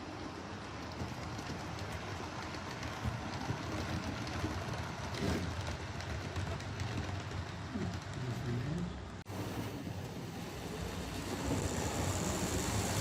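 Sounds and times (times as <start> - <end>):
wheels clicking over rail joints: 0.0 - 8.6, 9.4 - 13.0
model locomotive rumble: 0.0 - 13.0.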